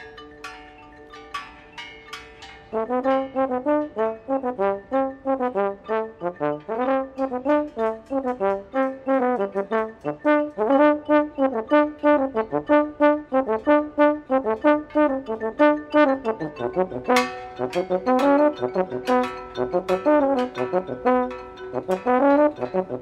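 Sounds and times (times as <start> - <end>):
sustained ringing notes: 0.0 - 23.0
quick melody of short notes: 2.8 - 23.0.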